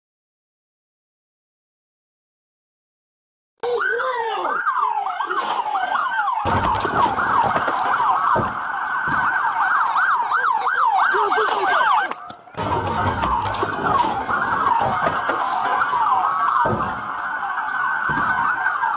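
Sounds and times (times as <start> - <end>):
police sirens wailing: 3.6 - 18.9.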